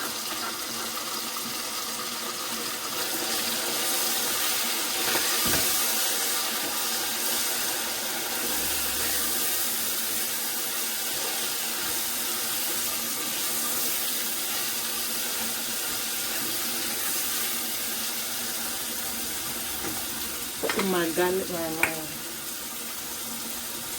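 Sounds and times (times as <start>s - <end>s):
food sizzling in a pot: 0.0s - 23.9s.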